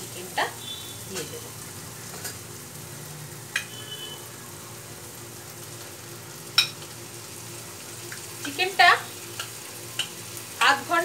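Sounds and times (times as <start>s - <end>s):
spice paste sizzling in oil: 0.0s - 11.0s.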